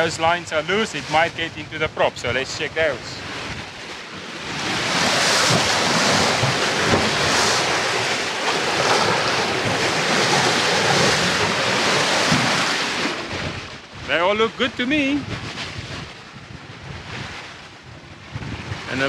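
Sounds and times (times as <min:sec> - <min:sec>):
sea water rushing along hull: 0:00.0 - 0:19.0
wind buffeting microphone: 0:00.0 - 0:19.0.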